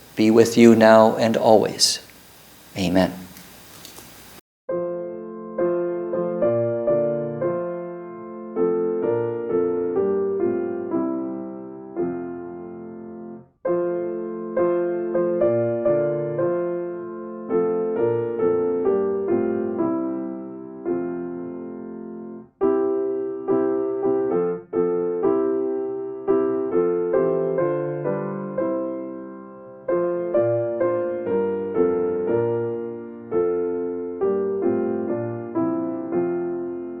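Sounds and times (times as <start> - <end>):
slow solo piano chords: 4.7 - 37.0.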